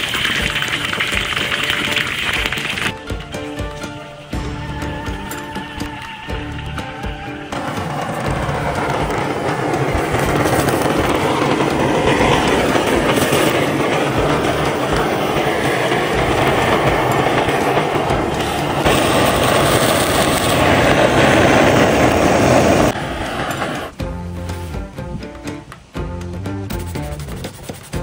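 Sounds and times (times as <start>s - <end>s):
blowtorch hissing: 0.0s - 24.0s.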